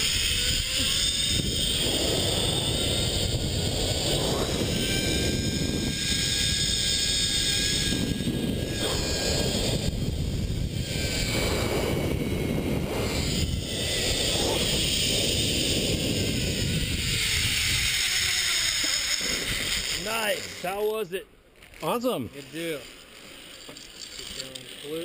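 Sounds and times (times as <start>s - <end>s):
wind on microphone: 0.0s - 20.6s
faint high whine: 0.0s - 21.3s
zipline trolley whirring on cable: 0.0s - 25.0s.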